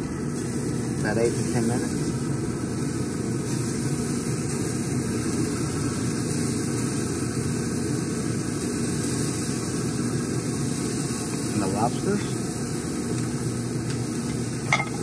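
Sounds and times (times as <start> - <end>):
fan running: 0.0 - 15.0.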